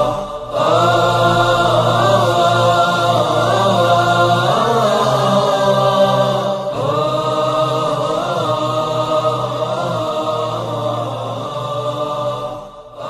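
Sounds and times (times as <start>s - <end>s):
low drone: 0.0s - 13.0s
voices chanting long notes: 0.0s - 13.0s.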